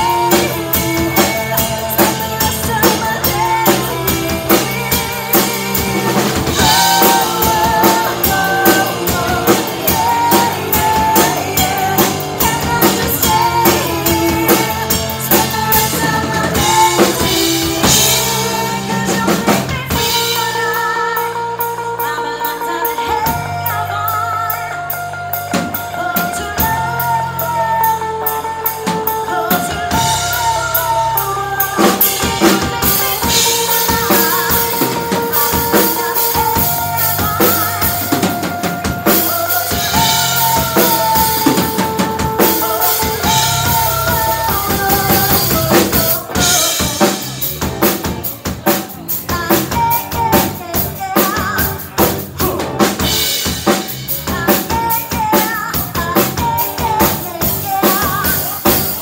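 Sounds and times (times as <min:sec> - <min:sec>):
bass guitar: 0:00.0 - 0:59.0
drum kit: 0:00.0 - 0:59.0
electric guitar: 0:00.0 - 0:59.0
held melody line: 0:00.0 - 0:59.0
live band playing: 0:00.0 - 0:59.0.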